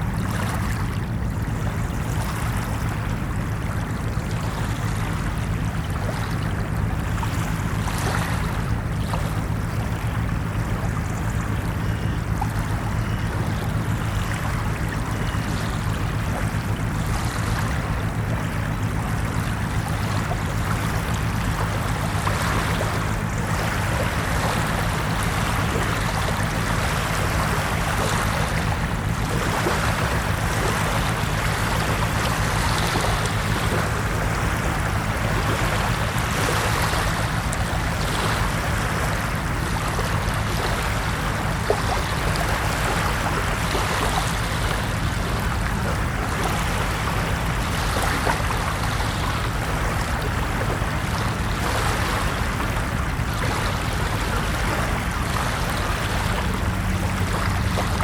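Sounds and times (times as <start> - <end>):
constant low rumble: 0.0 - 58.0
ocean waves washing on shore: 0.0 - 58.0.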